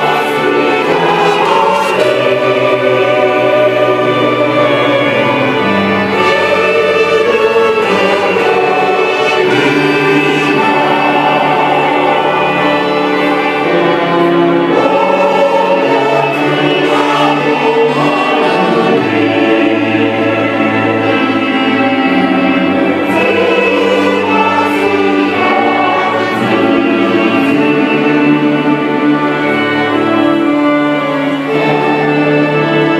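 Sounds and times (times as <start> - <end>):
choir singing a hymn: 0.0 - 32.9.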